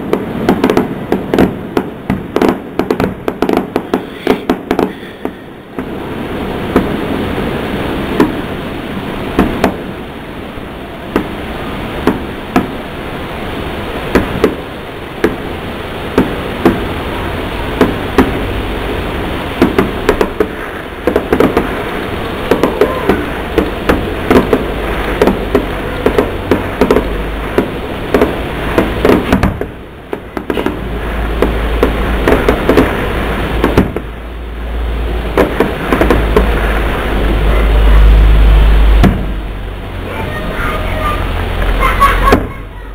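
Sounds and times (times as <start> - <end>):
distant fireworks bangs and pops: 0.0 - 13.0, 13.9 - 37.7, 39.0 - 39.4.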